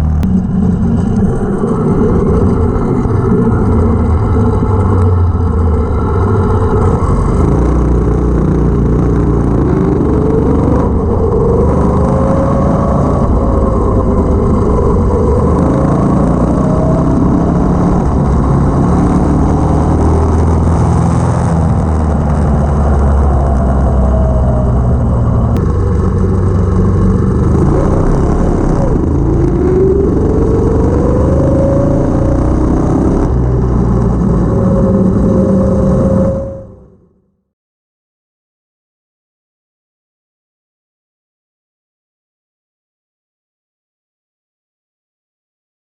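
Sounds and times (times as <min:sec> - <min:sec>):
go-kart engine accelerating: 0:00.0 - 0:37.0.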